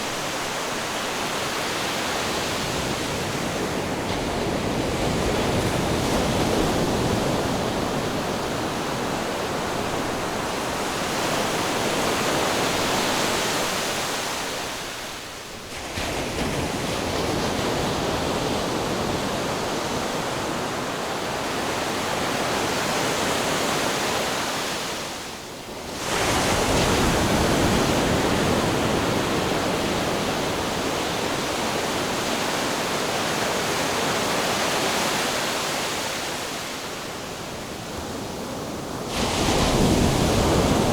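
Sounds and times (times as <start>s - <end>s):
ocean waves: 0.0s - 40.9s.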